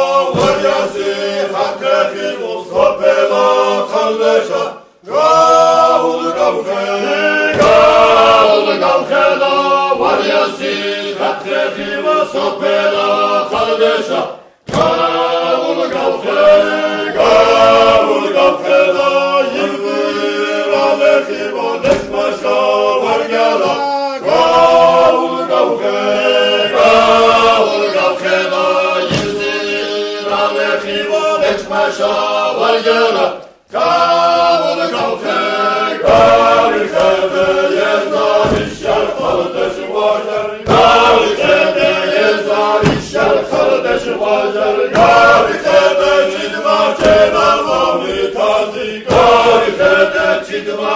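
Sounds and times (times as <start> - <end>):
choir chanting: 0.0 - 50.9.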